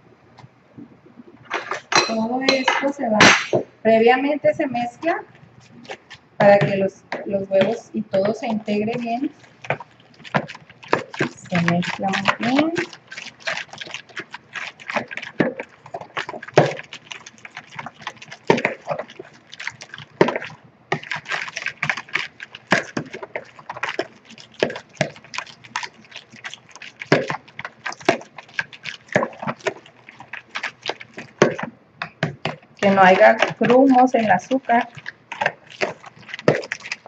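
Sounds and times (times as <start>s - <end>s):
fork beating eggs in bowl: 4.7s - 37.0s.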